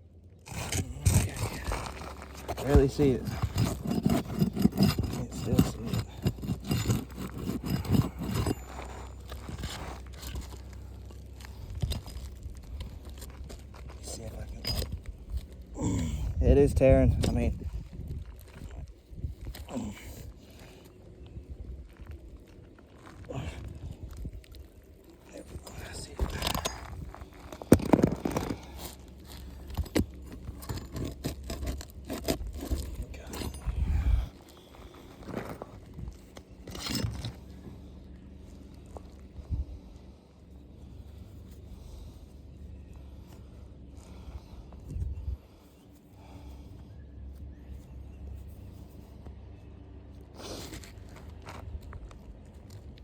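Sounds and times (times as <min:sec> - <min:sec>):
low steady rumble: 0:00.0 - 0:53.0
roof shingle crackling and scraping: 0:00.0 - 0:53.0.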